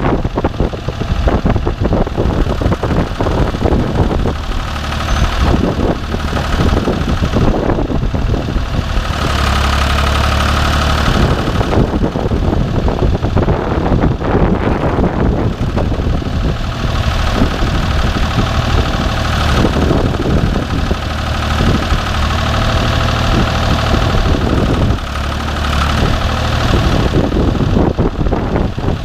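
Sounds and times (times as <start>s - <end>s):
backhoe engine running: 0.0s - 29.0s.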